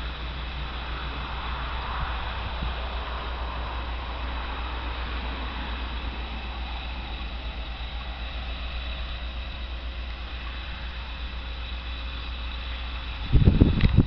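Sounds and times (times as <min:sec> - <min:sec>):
low rumble: 0:00.0 - 0:14.0
steady hiss: 0:00.0 - 0:14.0.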